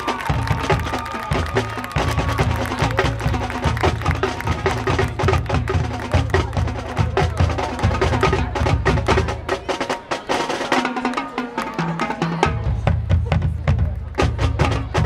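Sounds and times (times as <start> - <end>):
fast drumline beat: 0.0 - 15.0
marching band playing: 0.0 - 15.0.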